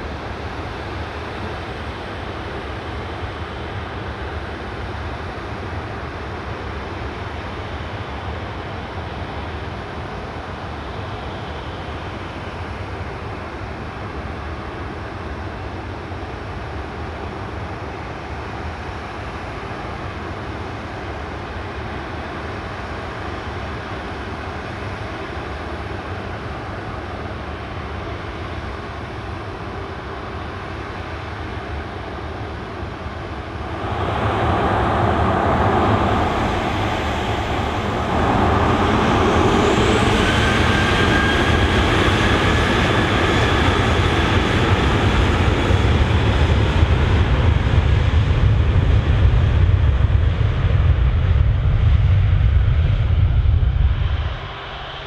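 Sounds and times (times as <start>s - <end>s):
jet engine noise: 0.0s - 55.0s.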